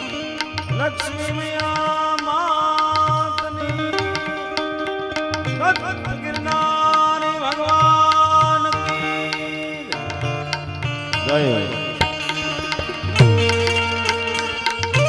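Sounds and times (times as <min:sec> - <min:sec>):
sustained melody with bending notes: 0:00.0 - 0:15.0
tabla drumming: 0:00.0 - 0:15.0.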